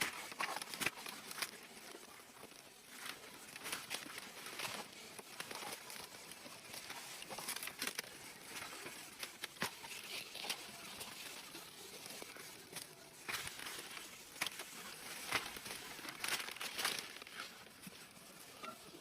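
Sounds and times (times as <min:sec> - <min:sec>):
twigs snapping: 0:00.0 - 0:18.0
footsteps through dry leaves and twigs: 0:00.0 - 0:19.0.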